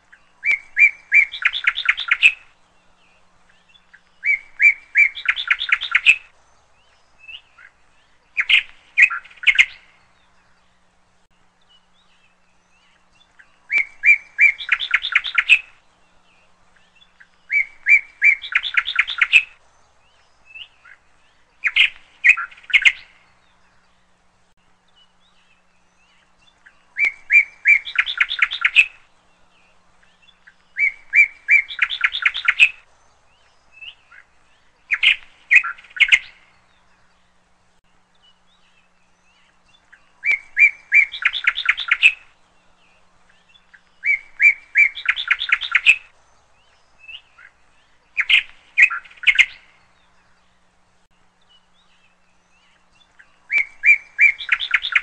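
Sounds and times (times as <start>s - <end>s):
bird chirping and trilling: 0.1s - 24.2s, 24.8s - 55.0s.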